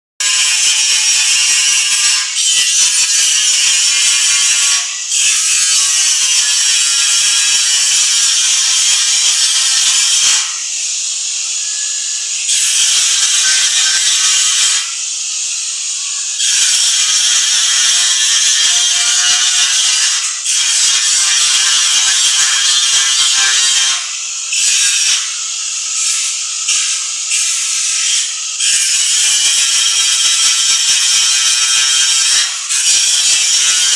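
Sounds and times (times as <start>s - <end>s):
angle grinder grinding steel: 0.2s - 33.9s.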